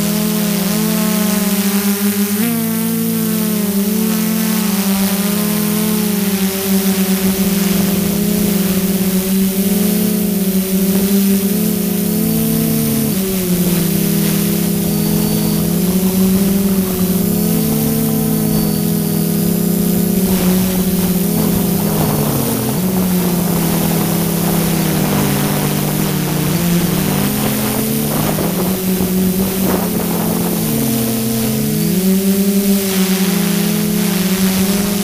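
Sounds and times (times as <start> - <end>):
drone motors humming: 0.0 - 35.0.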